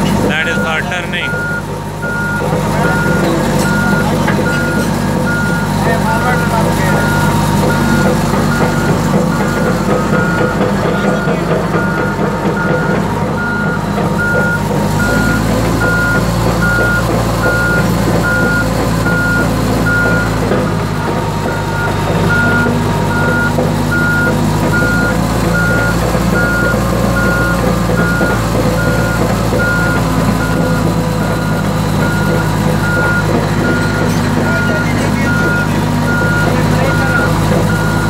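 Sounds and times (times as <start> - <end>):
diesel engine running: 0.0 - 38.0
backup alarm beeps: 0.3 - 20.4, 21.4 - 38.0.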